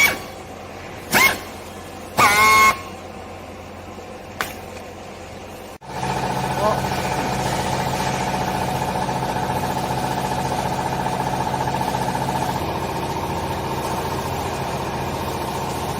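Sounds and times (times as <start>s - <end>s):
hydraulic power unit humming: 0.0s - 15.9s.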